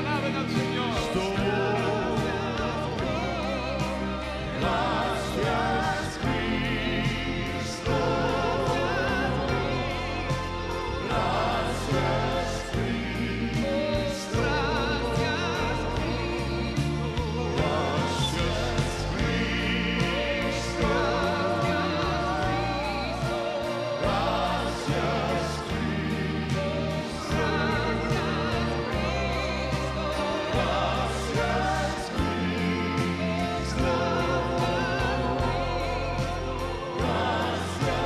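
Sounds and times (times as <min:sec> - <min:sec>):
gospel singing with vibrato: 0:00.0 - 0:38.0
sustained chords: 0:00.0 - 0:38.0.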